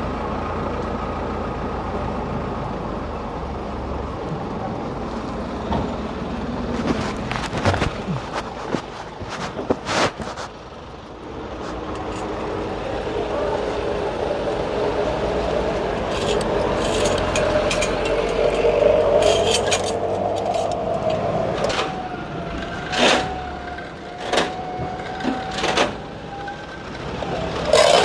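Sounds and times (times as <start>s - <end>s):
vehicle engine and road hum: 0.0s - 28.0s.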